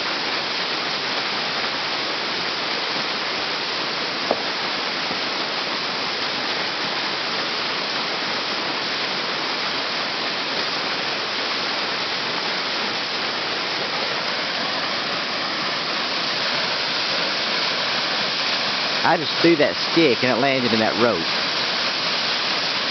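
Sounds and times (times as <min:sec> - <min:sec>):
waterfall and creek rushing: 0:00.0 - 0:22.9.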